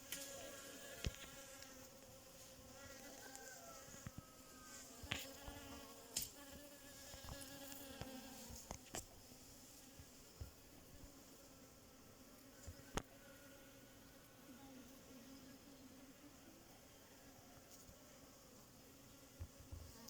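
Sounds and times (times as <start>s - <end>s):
bees buzzing: 0.0s - 16.1s.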